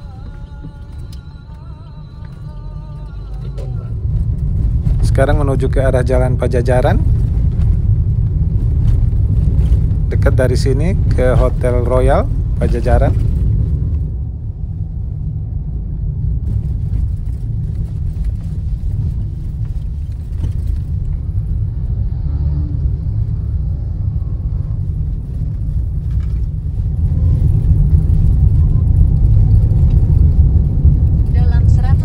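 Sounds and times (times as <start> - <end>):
car cabin rumble while driving: 0.0 - 32.0.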